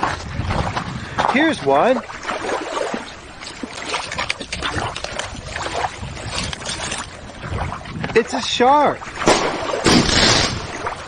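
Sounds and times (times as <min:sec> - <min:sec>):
shallow water sloshing: 0:00.0 - 0:11.0.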